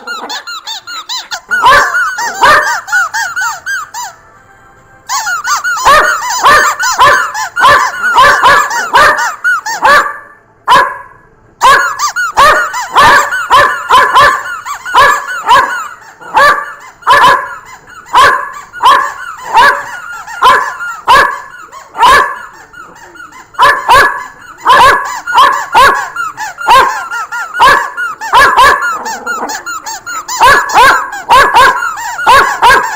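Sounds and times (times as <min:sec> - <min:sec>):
squeaky toy squawking: 0:00.0 - 0:04.3, 0:05.0 - 0:10.3, 0:11.6 - 0:32.9.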